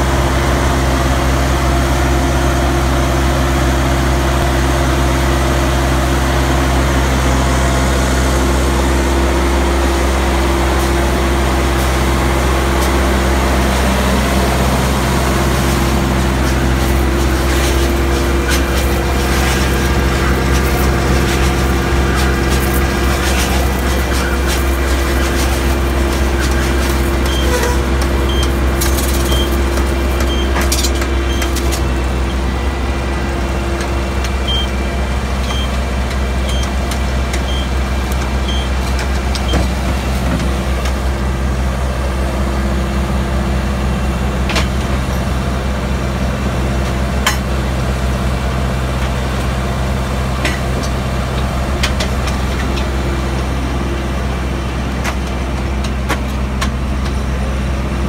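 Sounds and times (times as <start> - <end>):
baling machine engine drone: 0.0 - 58.0.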